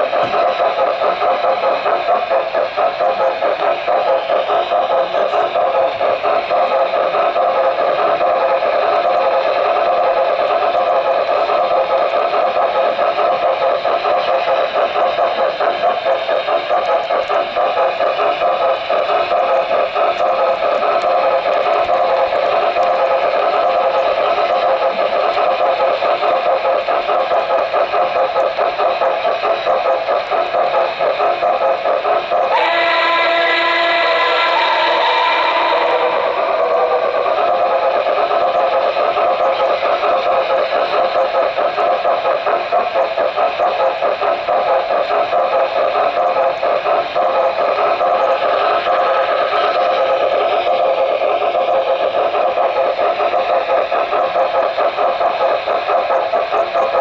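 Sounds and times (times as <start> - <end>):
model train motor whirring: 0.0 - 57.0
wheels clicking over rails: 0.0 - 57.0.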